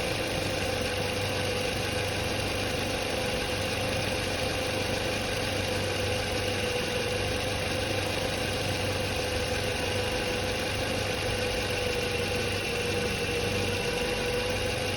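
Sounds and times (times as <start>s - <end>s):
steady alternator whine: 0.0s - 14.9s.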